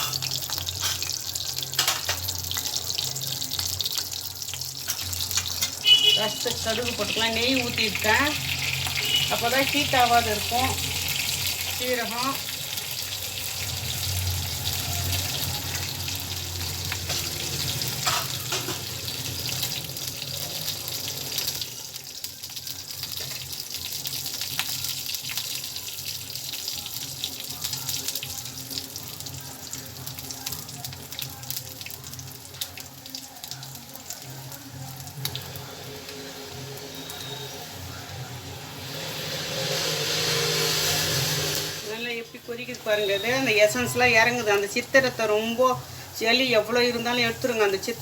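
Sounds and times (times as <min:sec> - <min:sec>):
seeds sizzling and popping in oil: 0:00.0 - 0:45.0.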